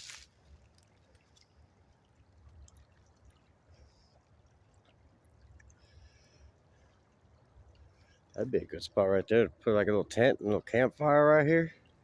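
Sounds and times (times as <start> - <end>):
faint river water flowing: 0.0 - 12.0.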